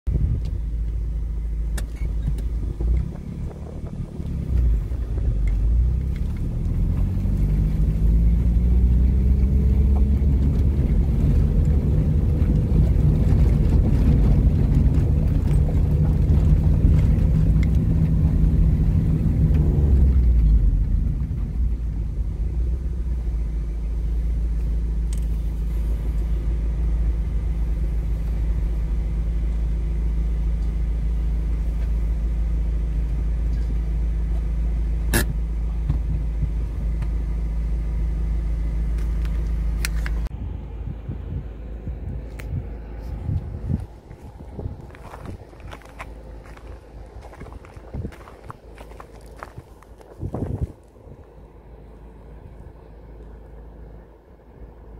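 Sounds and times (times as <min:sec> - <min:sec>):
car engine: 0:00.0 - 0:54.9
tyres rumbling on gravel: 0:00.1 - 0:40.3, 0:42.6 - 0:54.1.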